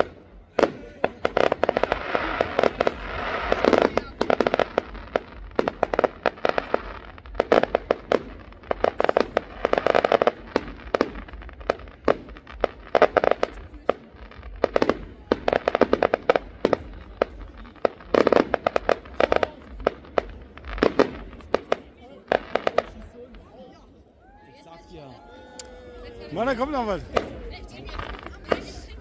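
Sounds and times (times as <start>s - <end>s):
fireworks crackling pops: 0.0s - 24.4s, 25.4s - 29.0s.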